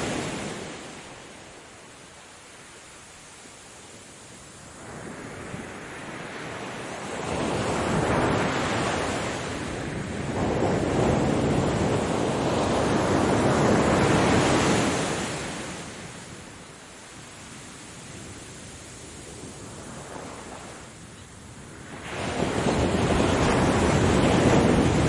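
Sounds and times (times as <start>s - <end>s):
ocean waves breaking on shore: 0.0s - 25.0s.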